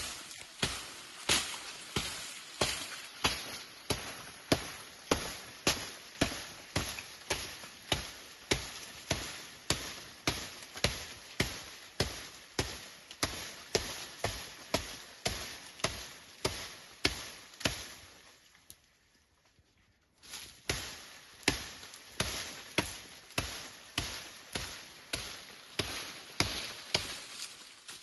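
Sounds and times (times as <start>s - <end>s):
sharp chopping strikes: 0.0s - 18.0s, 20.7s - 27.3s.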